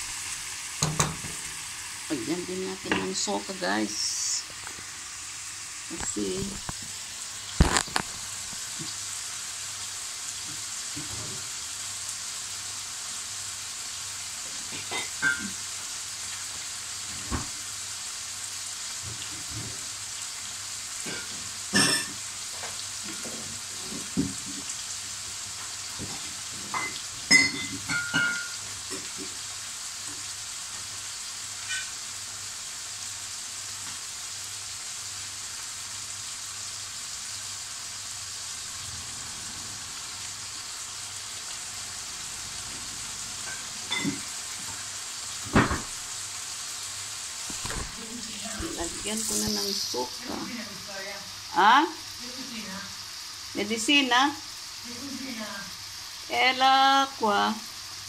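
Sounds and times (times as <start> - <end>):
food sizzling in frying pan: 0.0 - 58.0.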